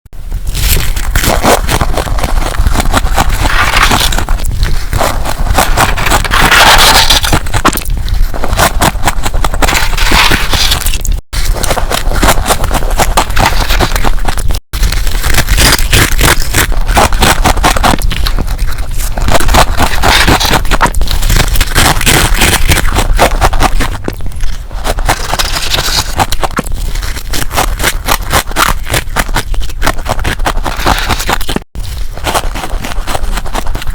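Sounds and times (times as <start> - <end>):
frost being scraped and crunched: 0.2 - 33.9.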